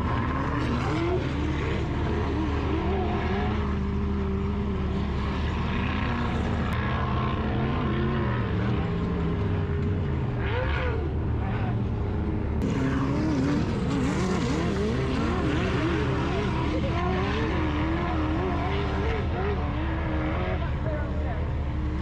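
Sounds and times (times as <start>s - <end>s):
vehicle engines revving: 0.0s - 22.0s.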